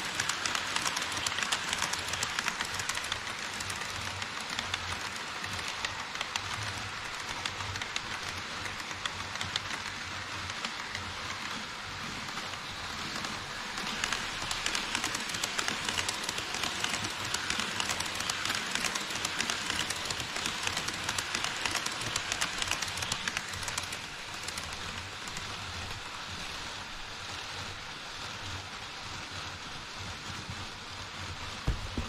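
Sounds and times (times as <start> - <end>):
model train wheels clattering: 0.0 - 26.1.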